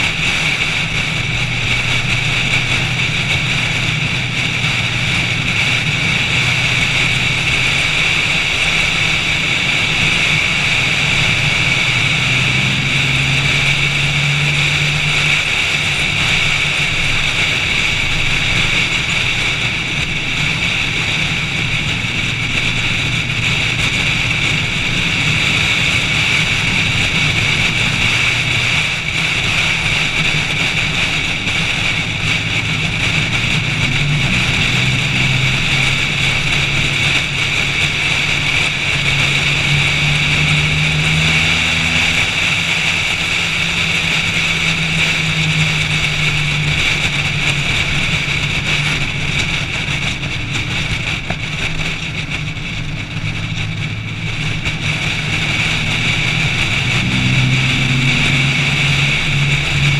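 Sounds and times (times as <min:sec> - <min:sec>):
car engine at speed: 0:00.0 - 0:59.9
wind and road noise: 0:00.0 - 0:59.9.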